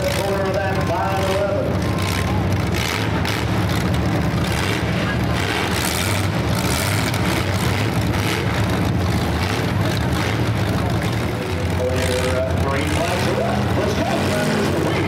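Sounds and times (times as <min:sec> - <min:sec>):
loud car engines running: 0:00.0 - 0:15.0.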